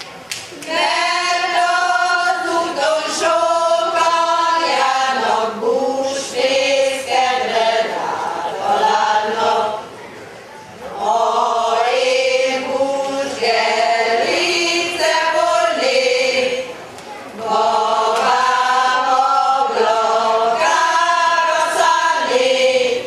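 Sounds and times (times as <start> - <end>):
women's choir singing: 0.5 - 10.0, 10.9 - 23.0.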